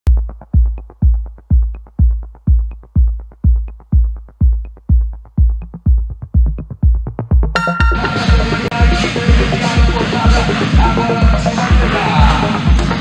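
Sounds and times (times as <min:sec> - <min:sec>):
hi-hat ticks: 0:00.1 - 0:11.6
electronic dance music: 0:00.1 - 0:13.0
heavy kick drum: 0:00.1 - 0:13.0.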